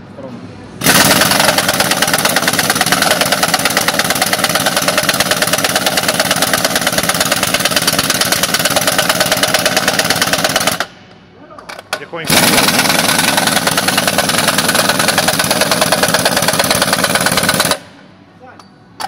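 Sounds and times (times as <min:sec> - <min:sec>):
pneumatic impact wrench hammering: 0:00.8 - 0:11.0, 0:11.7 - 0:18.0.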